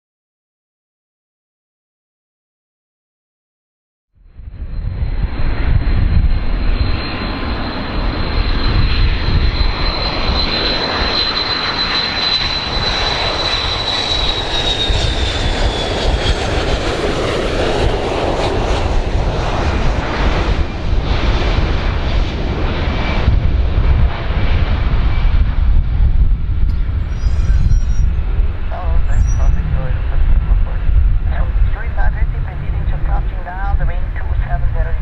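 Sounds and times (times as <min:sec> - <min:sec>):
high jet engine whine: 0:04.2 - 0:35.0
jet engine rumble: 0:04.2 - 0:35.0.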